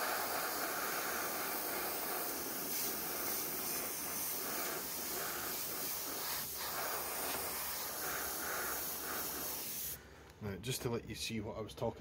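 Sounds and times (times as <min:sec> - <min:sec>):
airbrush hissing air: 0:00.0 - 0:10.0.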